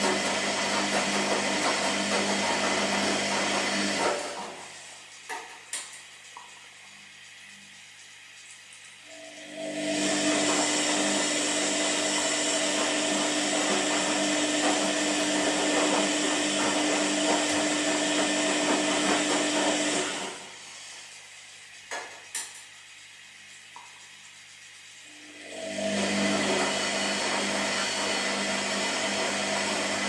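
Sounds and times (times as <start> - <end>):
washing machine whirring: 0.0 - 30.0.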